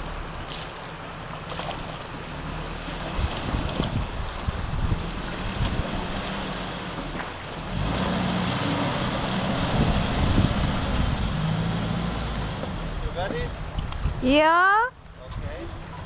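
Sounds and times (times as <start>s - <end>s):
jeep engine running: 0.0s - 16.0s
water splashing around wheels: 0.0s - 16.0s.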